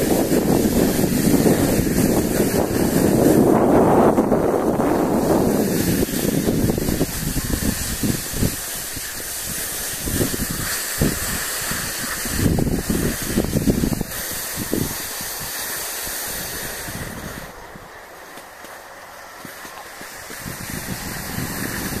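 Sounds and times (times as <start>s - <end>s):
wind buffeting microphone: 0.0s - 18.7s, 19.4s - 22.0s
skis sliding on snow: 0.0s - 22.0s.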